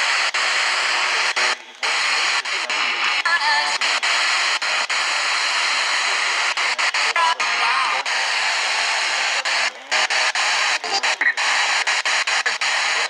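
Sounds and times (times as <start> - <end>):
faint broadcast audio: 0.0 - 13.0
radio static hiss: 0.0 - 13.0.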